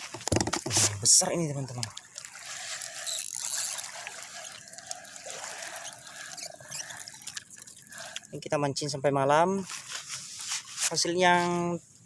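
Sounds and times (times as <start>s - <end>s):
water trickling and lapping: 0.0s - 8.8s, 9.5s - 11.8s.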